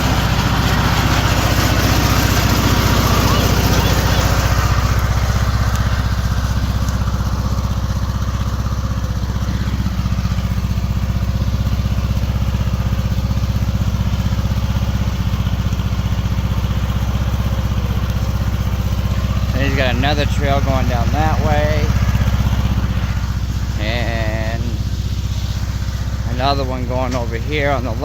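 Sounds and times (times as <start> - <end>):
lawn mower engine running: 0.0 - 28.0.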